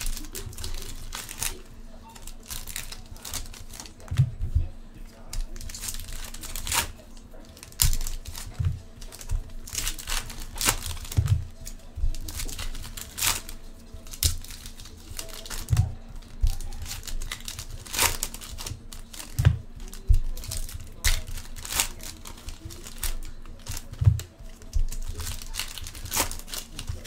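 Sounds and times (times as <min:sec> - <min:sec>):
foil wrappers tearing and crinkling: 0:00.0 - 0:04.4, 0:05.1 - 0:27.0.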